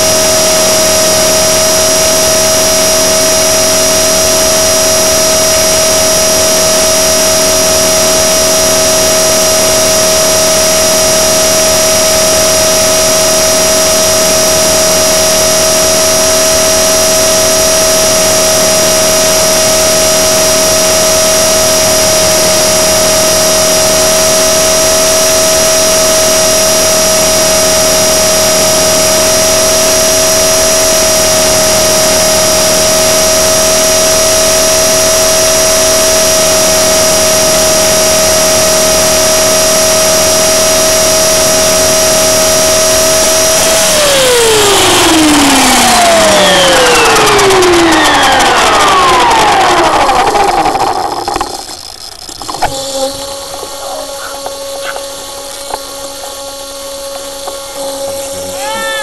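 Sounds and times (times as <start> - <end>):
electric motor and rotor whining: 0.0 - 59.0.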